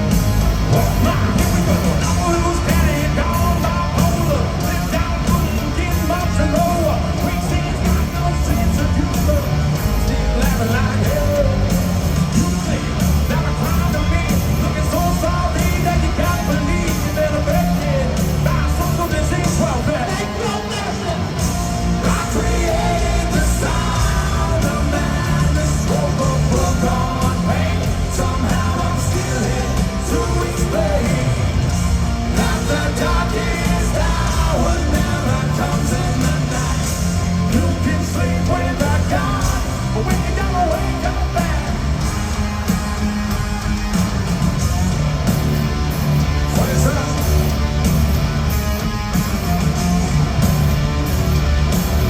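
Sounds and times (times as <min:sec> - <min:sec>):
hard rock band playing: 0:00.0 - 0:52.0
person singing and yelling: 0:00.6 - 0:42.7.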